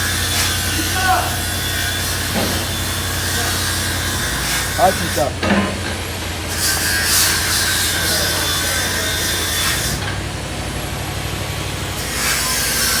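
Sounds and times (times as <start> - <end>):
motor machine rasping: 0.0 - 13.0.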